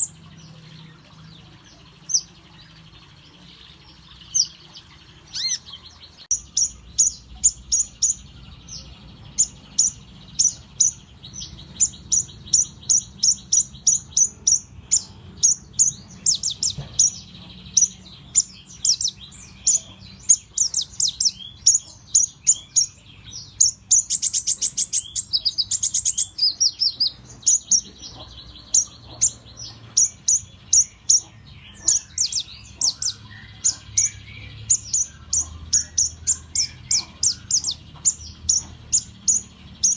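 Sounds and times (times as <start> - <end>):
sunbird chirping: 0.0 - 39.9.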